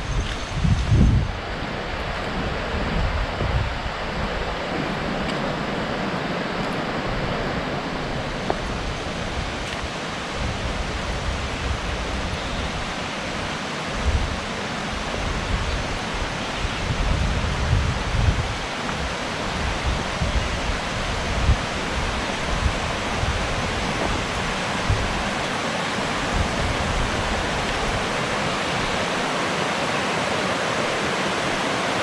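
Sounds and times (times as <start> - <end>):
wind buffeting microphone: 0.0 - 29.6
rushing water: 0.0 - 32.0.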